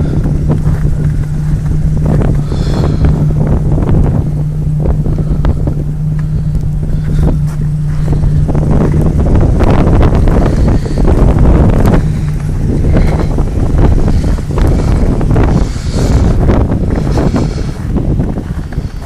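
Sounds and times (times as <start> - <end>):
steady low hum: 0.0 - 19.0
wind gusting against microphone: 0.0 - 19.0.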